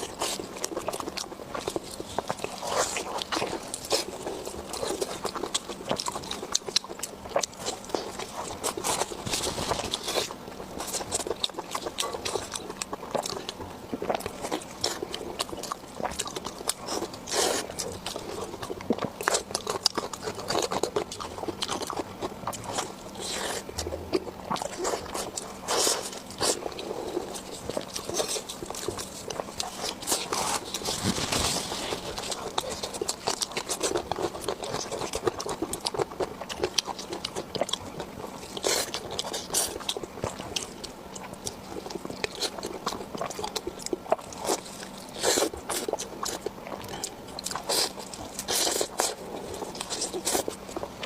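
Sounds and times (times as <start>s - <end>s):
crunchy chewing and biting: 0.0s - 51.0s.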